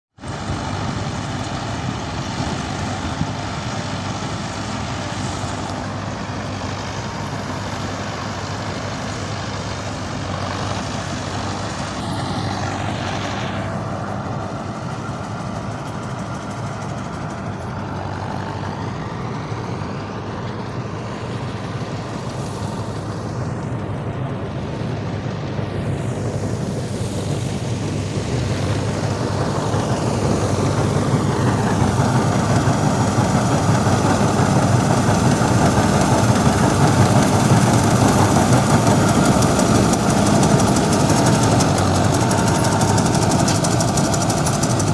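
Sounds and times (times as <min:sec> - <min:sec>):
harvesting machine engine drone: 0:00.2 - 0:44.9
mechanical rush: 0:00.3 - 0:18.8, 0:25.7 - 0:44.9.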